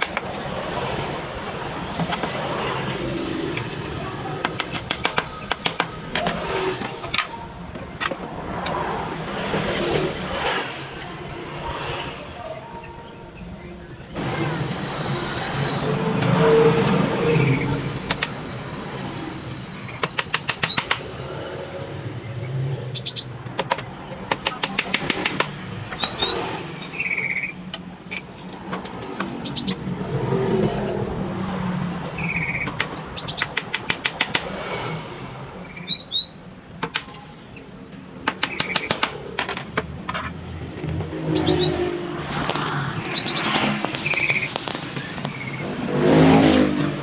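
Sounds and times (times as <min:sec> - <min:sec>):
steady background noise: 0:00.0 - 0:47.0.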